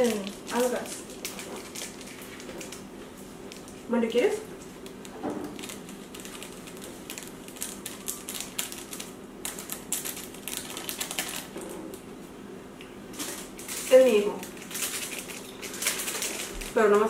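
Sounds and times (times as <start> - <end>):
plastic sachet crinkling: 0.0 - 2.9, 3.5 - 3.8, 4.7 - 11.7, 13.2 - 17.0.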